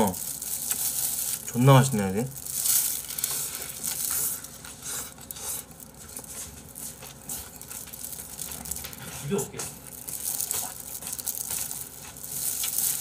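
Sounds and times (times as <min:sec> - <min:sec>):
person chewing and smacking: 0:02.6 - 0:13.0.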